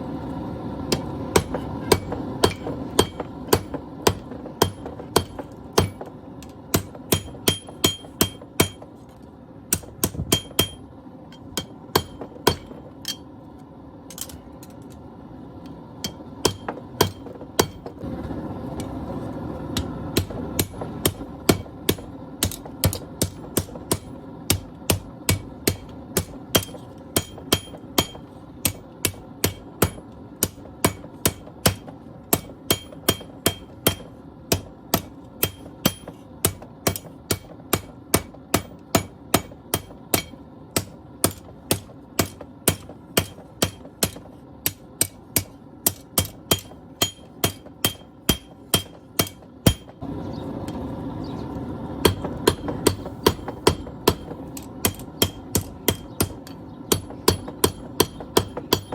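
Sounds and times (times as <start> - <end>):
hammer striking steel on anvil: 0.9 - 9.0, 9.7 - 13.3, 16.0 - 18.0, 19.7 - 50.1, 52.0 - 58.9.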